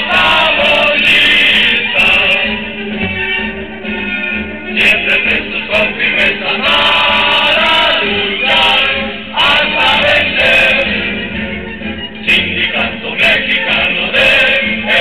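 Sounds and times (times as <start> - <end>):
crowd singing an anthem: 0.0 - 2.8, 4.8 - 11.3, 12.2 - 15.0.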